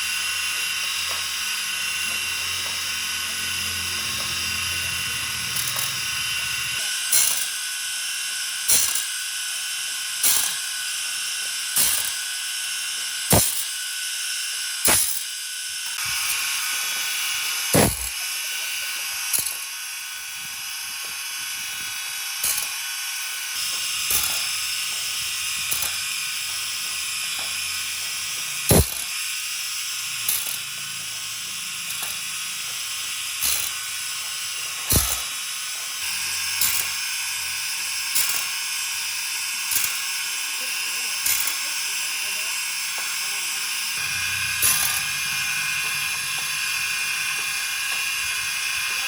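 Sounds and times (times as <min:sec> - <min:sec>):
small machine whining: 0:00.0 - 0:49.0.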